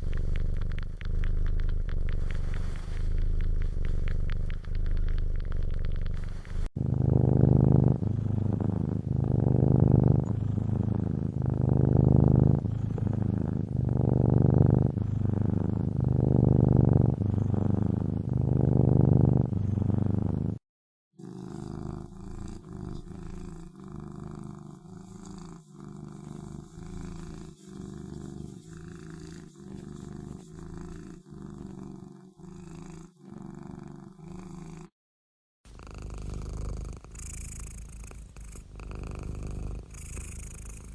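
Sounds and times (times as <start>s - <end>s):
cat purring: 0.0s - 20.6s, 21.2s - 34.9s, 35.7s - 40.9s
quieter cat purring: 0.0s - 20.6s, 21.2s - 34.9s, 35.7s - 40.9s.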